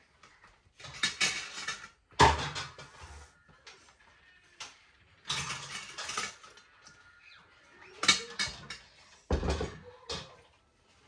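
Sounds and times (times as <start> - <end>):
dishes and utensils clattering: 0.0 - 11.0.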